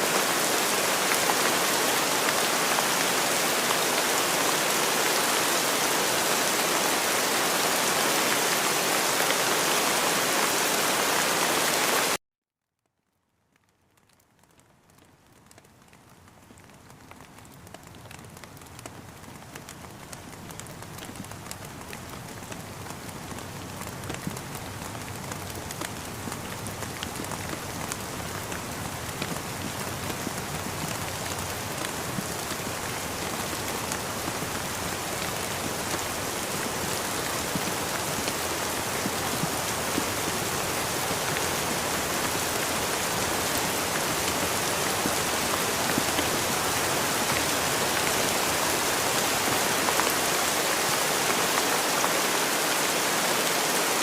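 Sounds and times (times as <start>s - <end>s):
rain falling: 0.0s - 12.2s, 13.3s - 54.0s.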